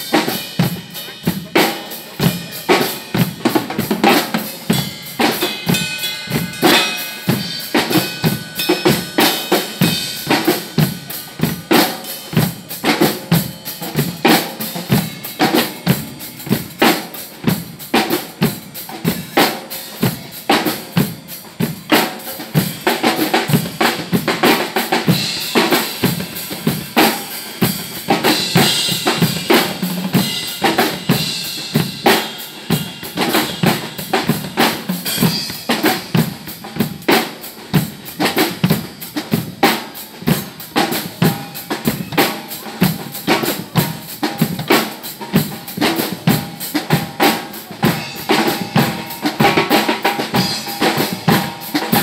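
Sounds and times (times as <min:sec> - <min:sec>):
drum kits playing a groove: 0:00.0 - 0:52.0.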